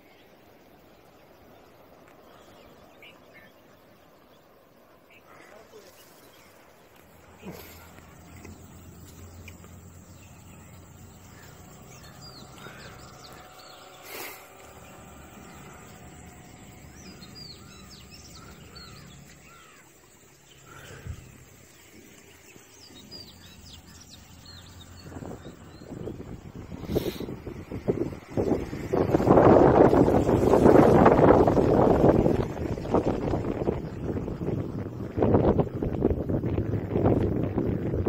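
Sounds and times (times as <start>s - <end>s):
birds chirping: 0.0s - 37.8s
low outdoor hum: 0.0s - 38.0s.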